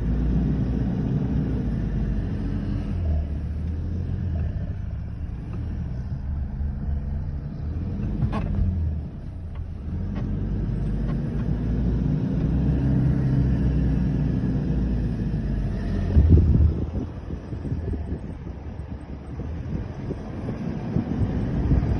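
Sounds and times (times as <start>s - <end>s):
off-road vehicle engine rumbling: 0.0s - 21.9s.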